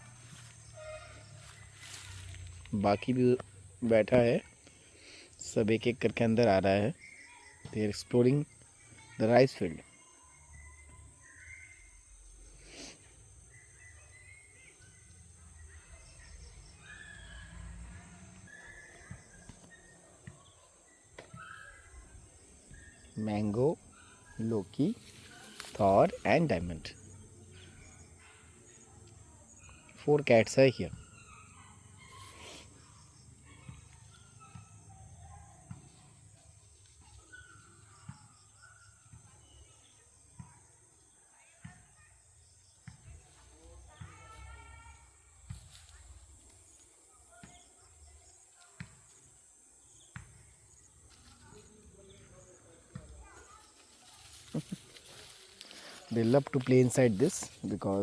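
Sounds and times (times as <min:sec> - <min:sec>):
birds chirping: 0:00.0 - 0:40.3, 0:46.5 - 0:58.0.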